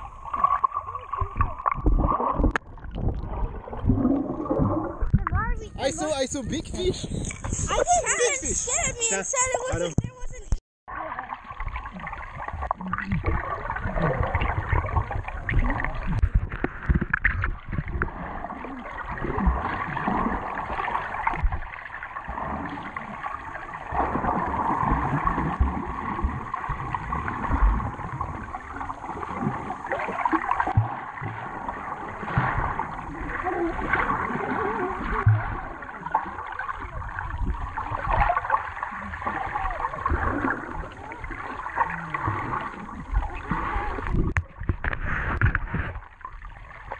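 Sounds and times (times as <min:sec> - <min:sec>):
sea water gurgling and sloshing: 0:00.0 - 0:46.9.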